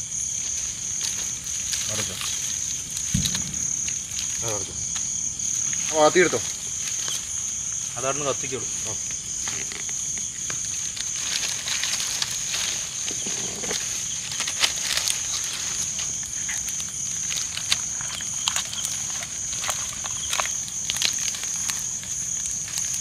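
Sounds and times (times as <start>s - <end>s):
crickets chirping: 0.0s - 23.0s
fire crackling and snapping: 0.0s - 23.0s.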